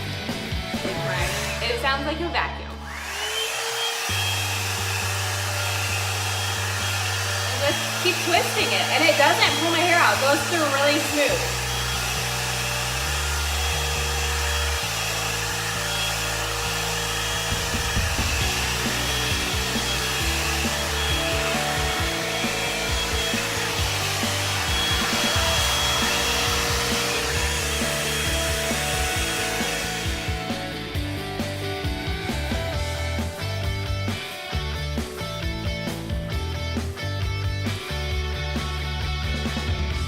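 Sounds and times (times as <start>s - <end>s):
background music: 0.0s - 3.0s, 4.1s - 40.0s
hair dryer blowing: 0.0s - 36.7s.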